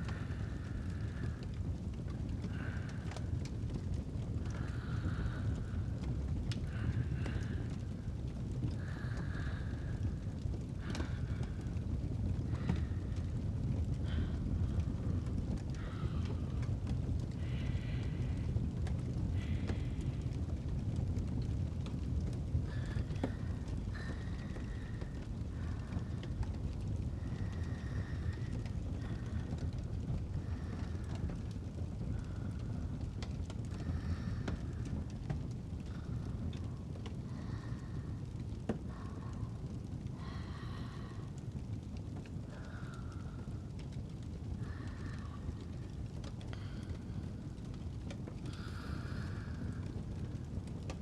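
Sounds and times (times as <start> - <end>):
fire crackling: 0.0 - 51.0
fireplace low rumble: 0.0 - 51.0
soft slow breathing: 0.0 - 51.0.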